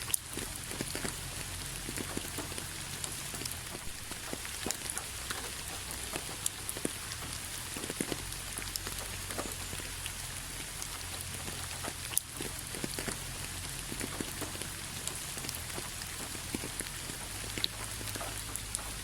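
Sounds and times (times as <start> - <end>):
raindrops tapping and splashing: 0.0 - 19.0
steady rain hiss: 0.0 - 19.0.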